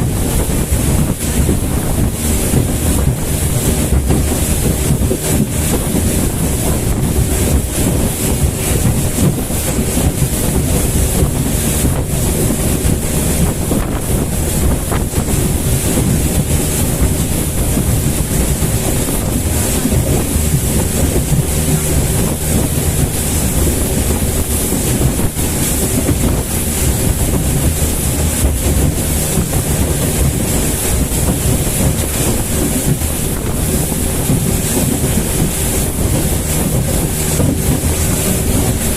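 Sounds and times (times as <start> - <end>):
motorboat engine drone: 0.0 - 38.9
water rushing past hull: 0.0 - 38.9
wind buffeting microphone: 0.0 - 38.9.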